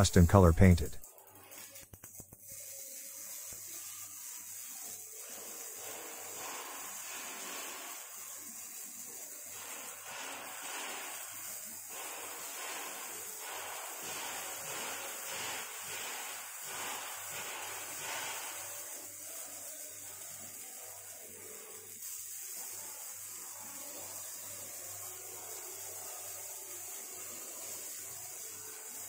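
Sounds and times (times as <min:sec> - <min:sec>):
paint spray gun hissing: 0:00.0 - 0:29.0.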